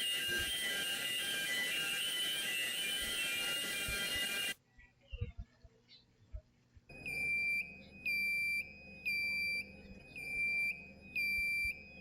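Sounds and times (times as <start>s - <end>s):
electronic alarm beeps: 0.0s - 4.6s, 6.9s - 12.0s.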